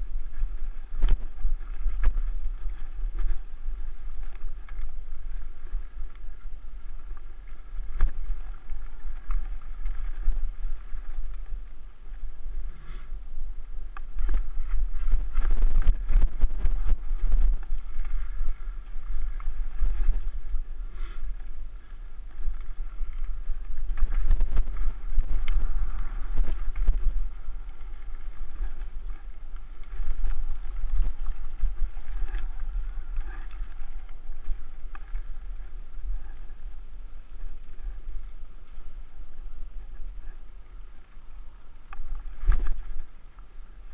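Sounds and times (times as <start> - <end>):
wind buffeting microphone: 0.0 - 41.0, 41.9 - 43.9.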